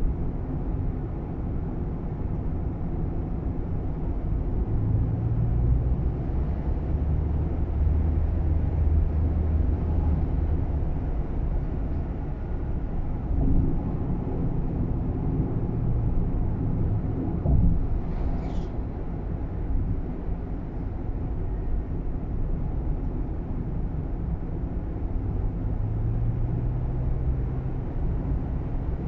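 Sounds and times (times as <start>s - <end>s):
car cabin road and engine rumble: 0.0s - 29.0s.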